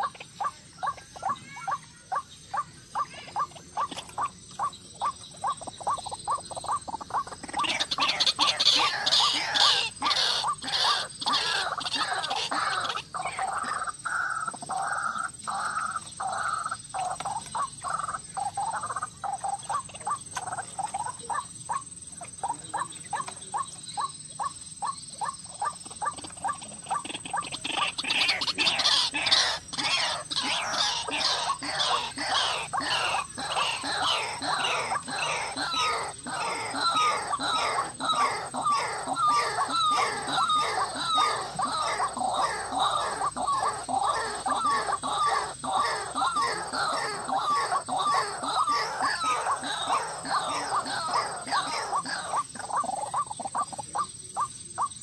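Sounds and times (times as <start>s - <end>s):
bird calling in rapid notes: 0.0s - 55.0s.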